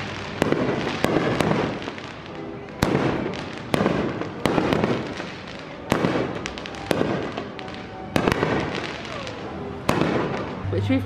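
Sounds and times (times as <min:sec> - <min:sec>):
fireworks bangs: 0:00.0 - 0:10.9.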